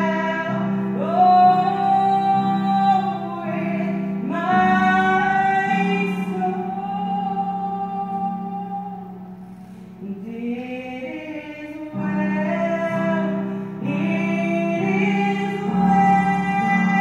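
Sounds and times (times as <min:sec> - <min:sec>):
woman singing: 0:00.0 - 0:09.2, 0:10.0 - 0:17.0
digital piano: 0:00.0 - 0:17.0.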